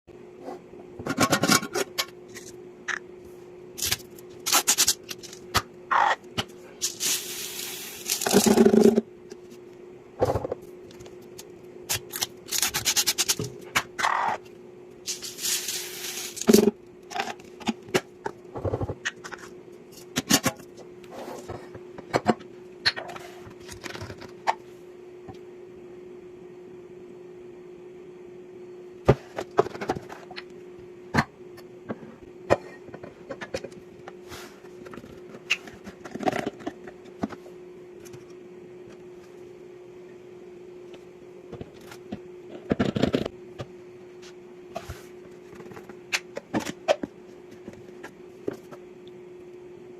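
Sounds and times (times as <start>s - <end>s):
steady low hum: 0.1s - 49.9s.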